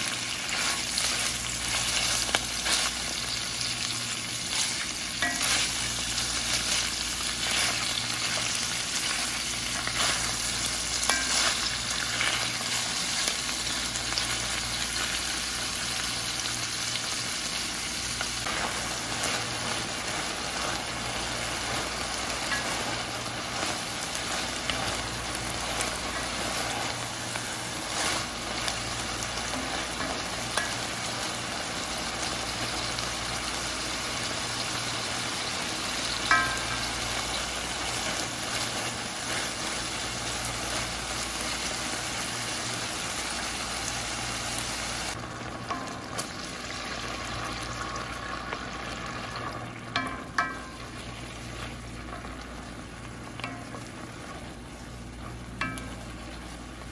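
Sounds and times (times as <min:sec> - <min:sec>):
onions sizzling in oil: 0:00.0 - 0:56.9.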